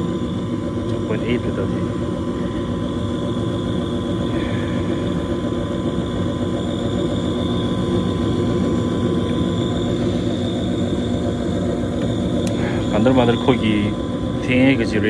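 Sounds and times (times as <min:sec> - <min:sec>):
furnace motor drone: 0:00.0 - 0:15.0.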